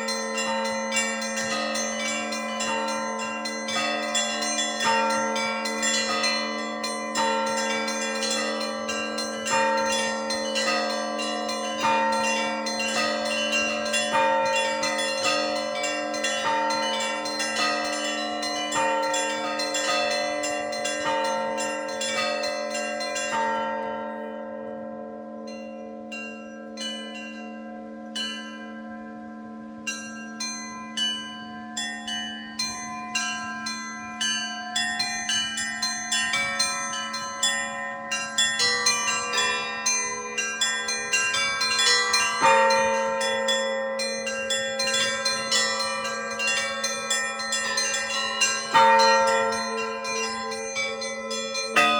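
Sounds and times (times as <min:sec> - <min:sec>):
low hum of large bells: 0:00.0 - 0:51.9
small church bells ringing rapidly: 0:00.0 - 0:51.9.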